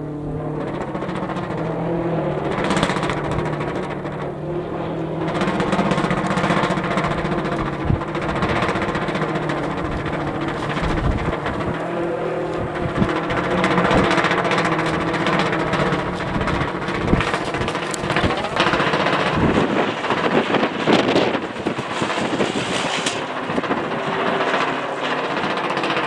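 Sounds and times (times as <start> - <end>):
gusty wind: 0.0 - 26.0
kite fabric flapping: 0.0 - 26.0
steady low hum: 0.0 - 26.0.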